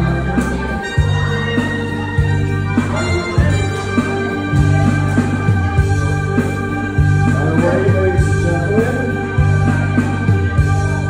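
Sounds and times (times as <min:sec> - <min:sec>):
electronic keyboard music: 0:00.0 - 0:11.0
drum beat: 0:00.9 - 0:11.0.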